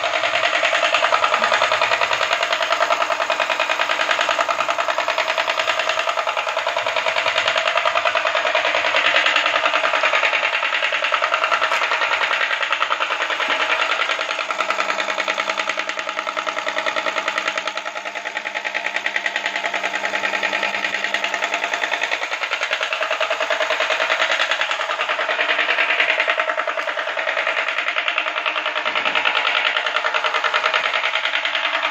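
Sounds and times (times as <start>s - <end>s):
plunger pump pulsing clatter: 0.0s - 31.9s.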